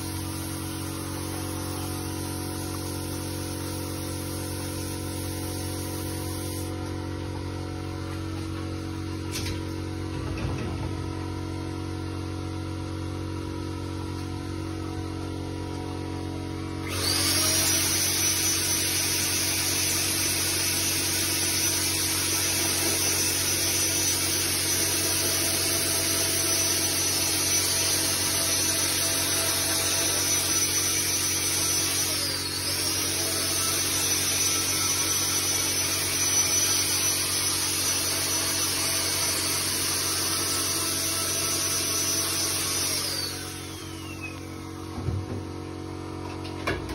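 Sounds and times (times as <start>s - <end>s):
power tool motor whine: 0.0s - 46.8s.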